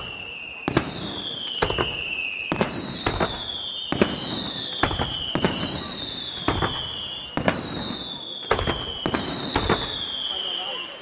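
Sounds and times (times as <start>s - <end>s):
firework crackle: 0.0s - 11.0s.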